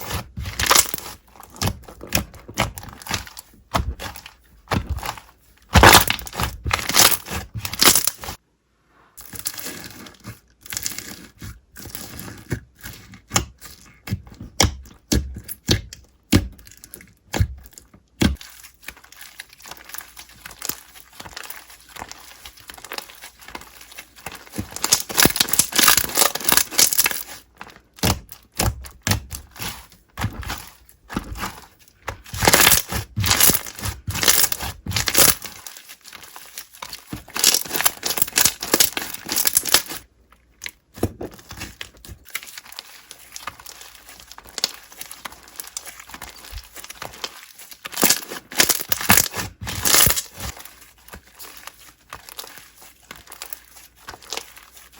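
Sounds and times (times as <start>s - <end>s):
slime crackling and popping: 0.0s - 8.4s, 14.6s - 54.9s.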